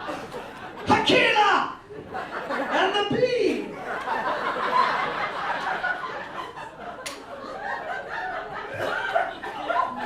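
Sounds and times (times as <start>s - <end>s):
audience laughing: 0.0s - 0.9s, 1.9s - 10.0s.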